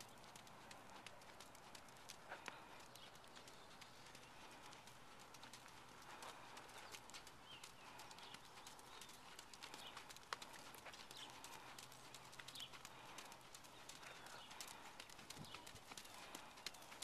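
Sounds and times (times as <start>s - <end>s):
hoofbeats on sand: 0.0s - 17.0s.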